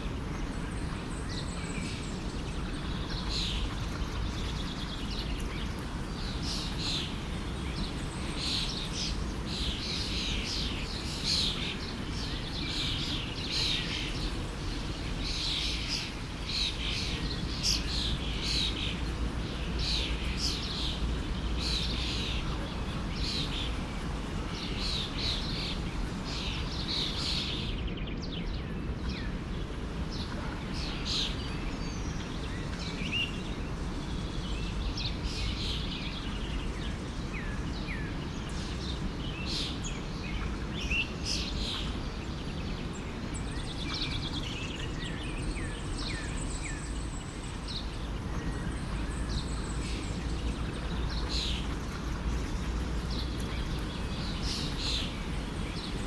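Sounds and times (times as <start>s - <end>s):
forest stream rushing: 0.0s - 27.8s, 28.8s - 56.0s
birds chirping: 0.0s - 56.0s.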